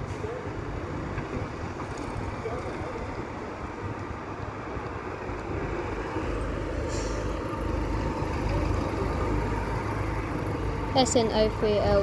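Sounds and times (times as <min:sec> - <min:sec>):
diesel bus driving past: 0:00.0 - 0:12.0.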